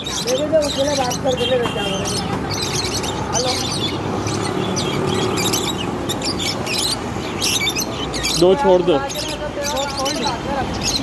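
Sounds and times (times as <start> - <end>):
budgerigars chirping: 0.0 - 11.0
steady background noise: 0.0 - 11.0.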